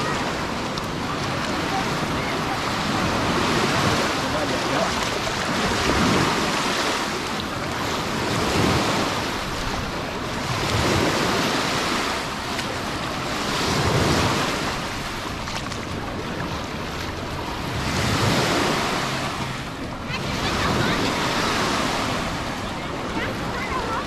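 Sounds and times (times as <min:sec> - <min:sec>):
sea waves breaking on shore: 0:00.0 - 0:24.0
wind on microphone: 0:00.0 - 0:24.0.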